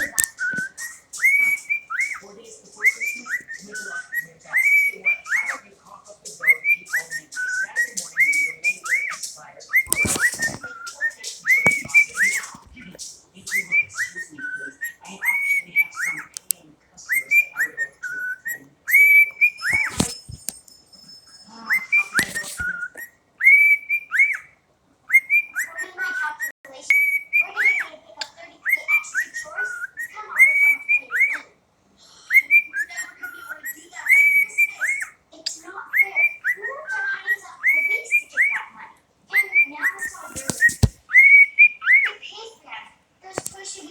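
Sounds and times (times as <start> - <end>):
cockatiel whistling: 0.0 - 31.5, 32.2 - 38.7, 39.3 - 42.2.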